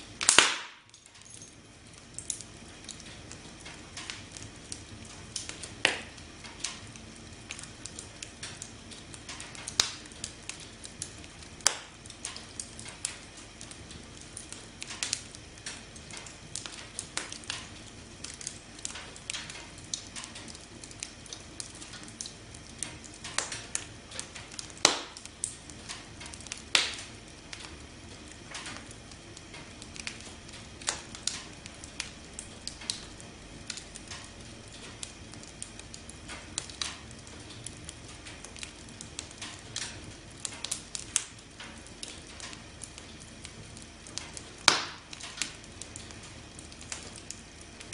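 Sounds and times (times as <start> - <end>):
campfire hissing: 0.0 - 1.0, 1.6 - 47.9
fire crackles and pops: 0.0 - 47.9.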